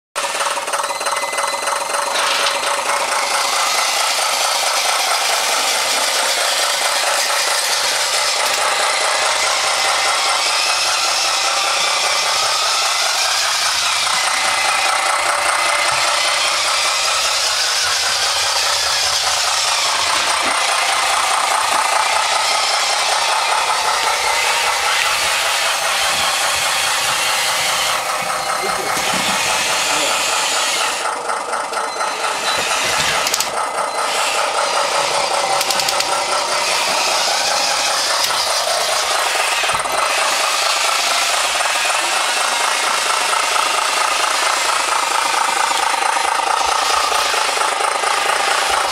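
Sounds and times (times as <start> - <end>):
constant rattle: 0.2 - 48.9
electric motor whine: 0.3 - 48.9.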